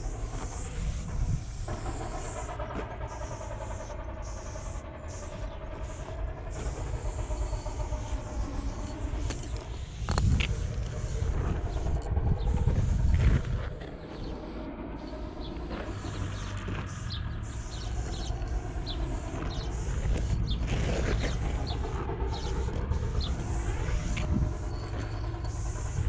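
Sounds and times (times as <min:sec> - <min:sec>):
spray paint can hissing: 0:00.0 - 0:26.0
steady low rumble: 0:00.0 - 0:26.0.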